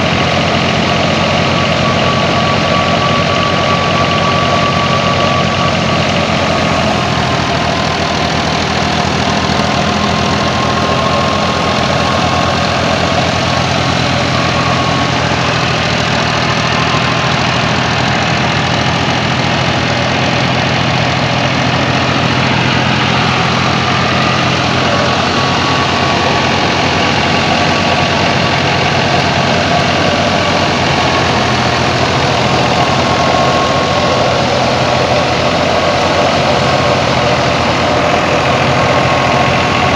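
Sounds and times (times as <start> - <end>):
thin high whine: 0.0 - 39.9
thresher machinery clatter: 0.0 - 39.9
tractor diesel engine running: 0.0 - 39.9.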